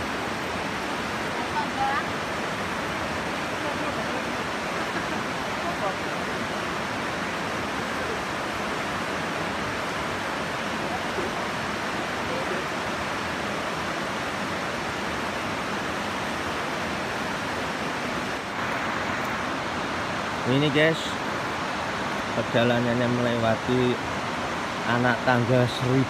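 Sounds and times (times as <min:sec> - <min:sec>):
river and waterfall rushing: 0:00.0 - 0:26.0.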